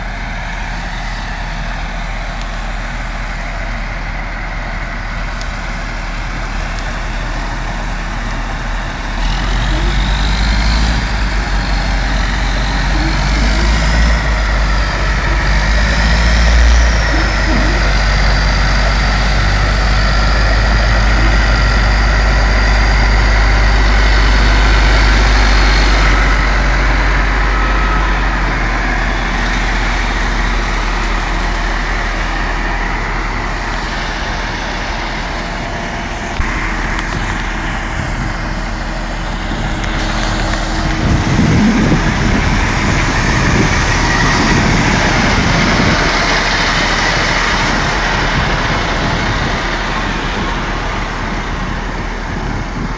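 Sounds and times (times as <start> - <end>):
heavy truck engine running: 0.0 - 52.9.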